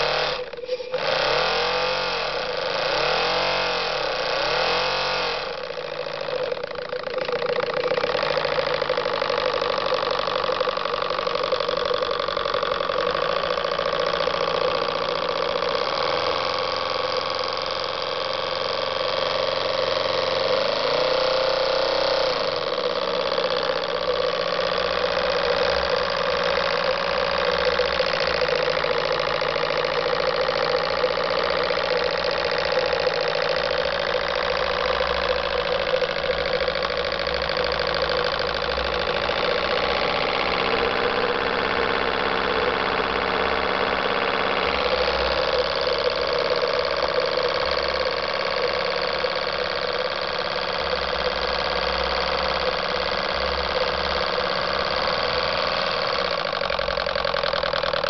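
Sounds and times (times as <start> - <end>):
miniature steam engine clattering: 0.0 - 58.0.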